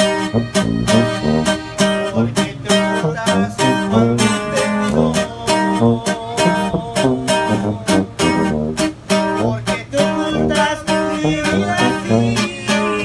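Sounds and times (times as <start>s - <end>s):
button accordion melody: 0.0s - 13.0s
strummed acoustic guitar: 0.0s - 13.0s.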